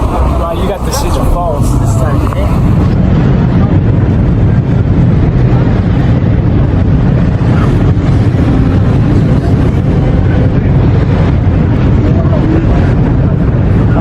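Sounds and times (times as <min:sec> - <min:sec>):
low rumble: 0:00.0 - 0:14.0
wind buffeting microphone: 0:00.0 - 0:14.0.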